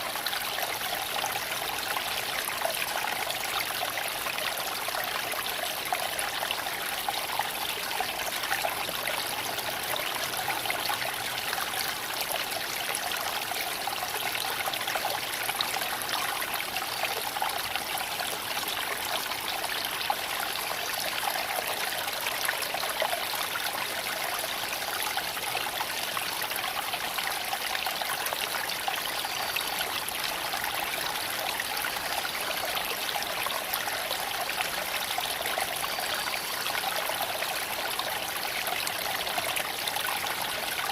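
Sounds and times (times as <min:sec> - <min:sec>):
creek water flowing over stones: 0:00.0 - 0:40.9.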